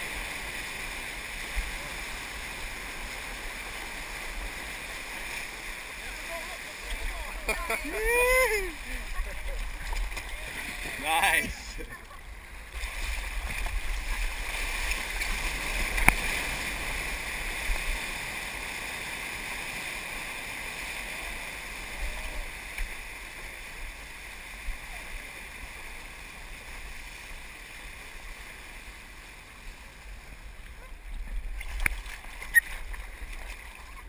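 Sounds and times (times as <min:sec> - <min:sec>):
water rushing and splashing: 0:00.0 - 0:34.0.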